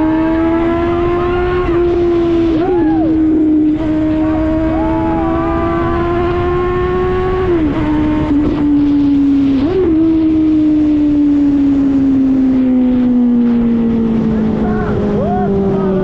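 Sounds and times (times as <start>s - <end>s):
motorcycle engine loud exhaust: 0.0s - 16.0s.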